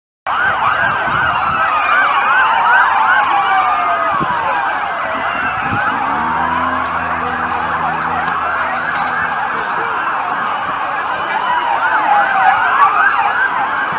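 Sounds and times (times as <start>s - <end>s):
emergency vehicle sirens: 0.3s - 13.9s.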